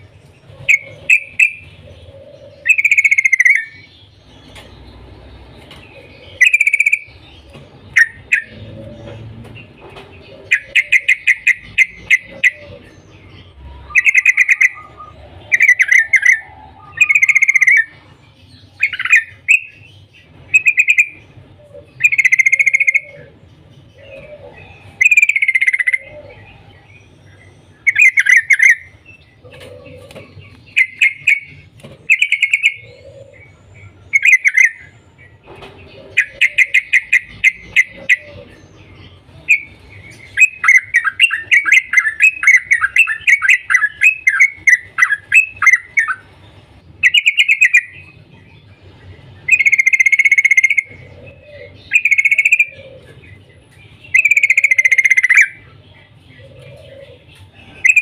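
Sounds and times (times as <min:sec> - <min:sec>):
bird chattering calls: 0:00.0 - 0:18.1, 0:18.7 - 0:58.0.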